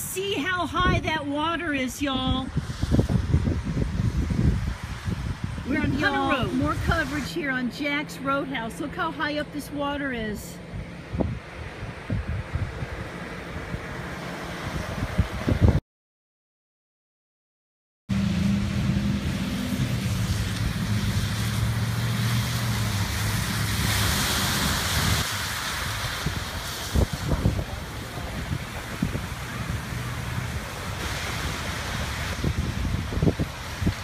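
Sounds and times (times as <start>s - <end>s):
water: 0.0s - 15.8s, 18.1s - 34.0s
wind on microphone: 0.7s - 7.6s, 10.6s - 15.8s, 18.2s - 34.0s
low engine hum: 2.5s - 15.8s, 18.1s - 34.0s.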